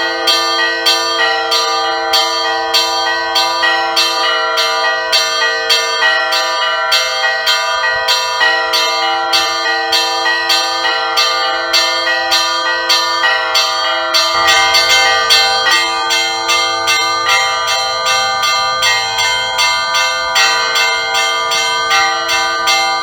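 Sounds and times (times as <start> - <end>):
hum of large bells: 0.0 - 23.0.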